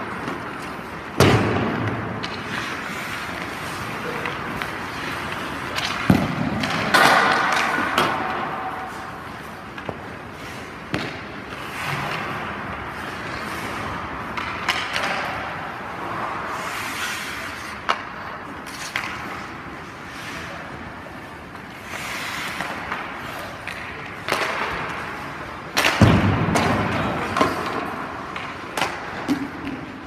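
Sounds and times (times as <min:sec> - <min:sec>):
skates scraping on ice: 0:00.0 - 0:30.0.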